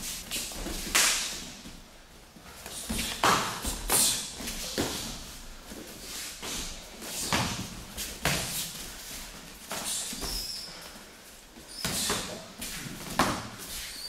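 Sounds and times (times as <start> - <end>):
bare feet shuffling on mats: 0.0 - 14.0.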